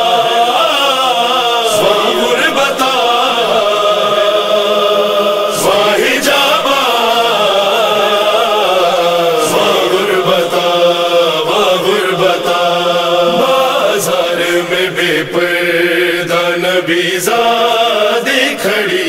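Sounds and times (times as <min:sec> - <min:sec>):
backing singers: 0:00.0 - 0:19.0
lead reciter chanting: 0:00.0 - 0:19.0
men chanting a lament: 0:00.0 - 0:19.0.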